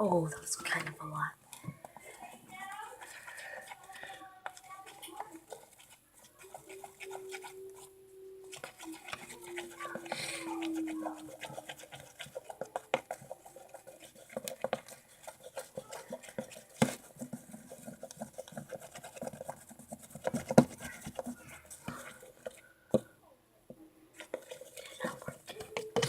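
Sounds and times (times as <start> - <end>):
utensil scraping and tapping bowl: 1.5 - 23.1, 24.2 - 26.0.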